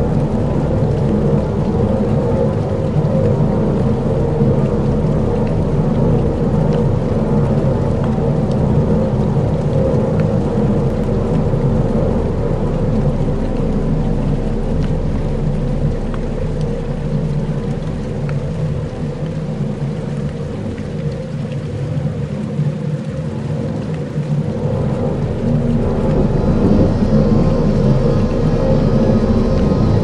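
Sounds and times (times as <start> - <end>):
low rumbling drone: 0.0 - 21.6, 23.3 - 30.0
rain-like hiss: 0.0 - 30.0.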